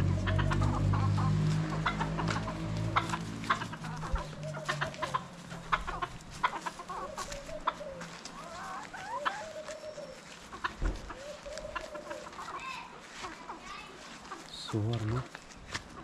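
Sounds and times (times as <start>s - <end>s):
rising chicken calls: 0.0s - 14.5s
chickens clucking: 0.0s - 16.0s.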